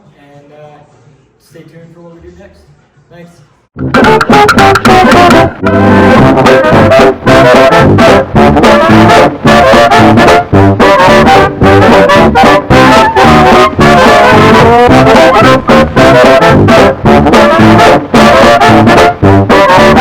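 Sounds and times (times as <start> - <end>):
brass music over a beat: 3.8 - 20.0.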